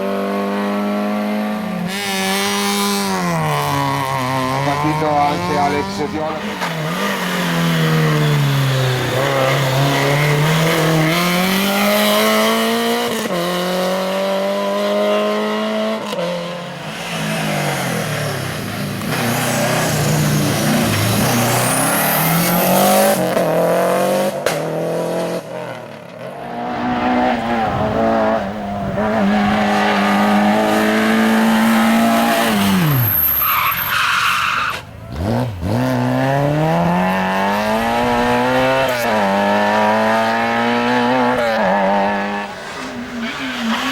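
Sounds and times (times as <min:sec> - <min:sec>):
racing car engine at full throttle: 0:00.0 - 0:43.9.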